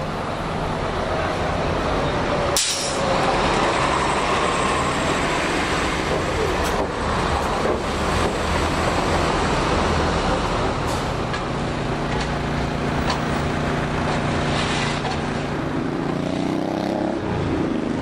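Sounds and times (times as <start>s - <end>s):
bus engine running: 0.0s - 15.9s
road traffic: 0.0s - 18.0s.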